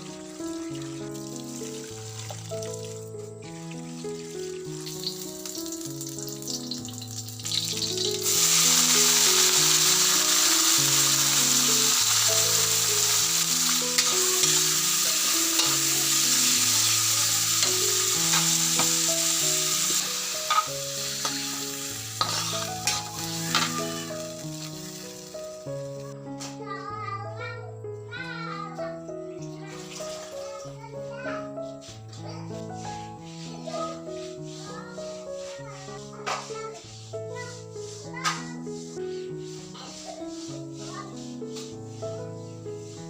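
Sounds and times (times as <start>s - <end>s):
food sizzling in a pan: 0.0s - 26.6s, 29.3s - 43.0s
soft instrumental music: 0.0s - 43.0s.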